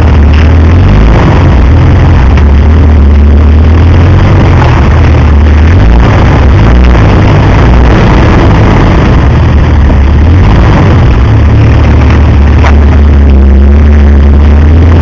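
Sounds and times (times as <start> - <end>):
steady low hum: 0.0 - 15.0
vehicle engine crawling over rocks: 0.0 - 15.0.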